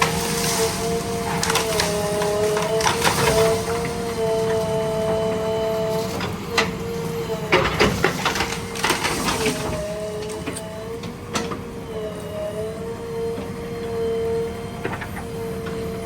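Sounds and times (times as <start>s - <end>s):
backhoe engine running: 0.0s - 16.0s
hydraulic whine: 0.0s - 16.0s.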